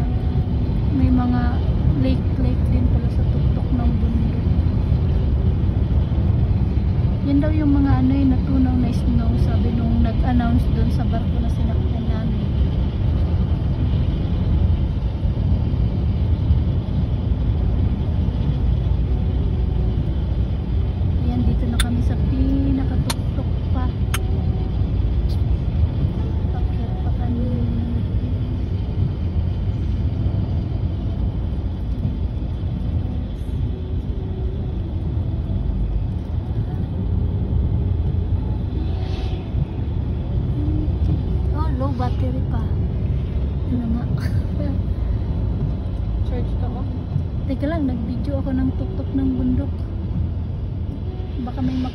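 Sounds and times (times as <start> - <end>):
road and engine rumble in cabin: 0.0 - 51.9.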